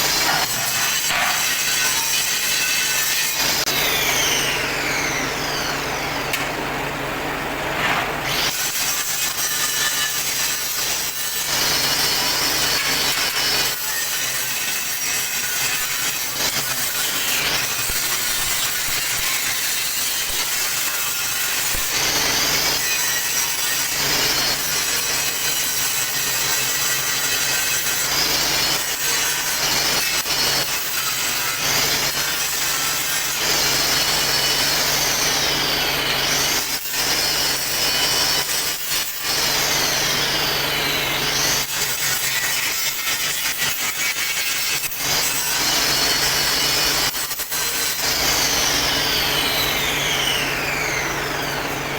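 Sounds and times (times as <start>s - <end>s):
power tool grinding steel: 0.0s - 6.4s, 8.2s - 51.9s.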